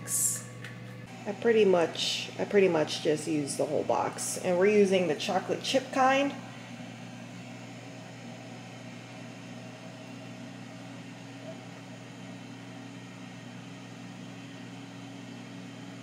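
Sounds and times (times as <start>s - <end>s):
air fryer fan hum: 0.0s - 16.0s.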